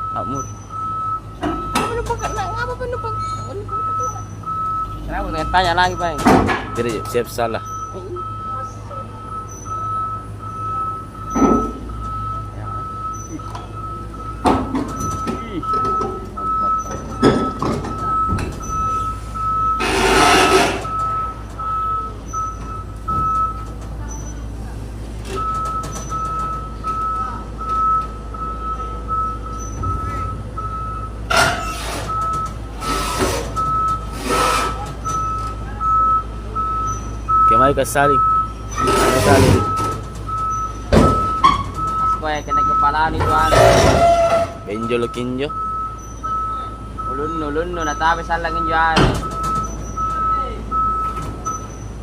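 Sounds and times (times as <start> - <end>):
excavator diesel engine running: 0.0 - 52.0
travel alarm beeping: 0.0 - 52.0.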